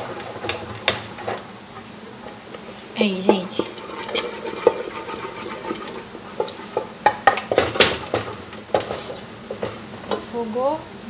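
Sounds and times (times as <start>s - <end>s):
wooden spoon stirring in metal pot: 0.0s - 10.3s.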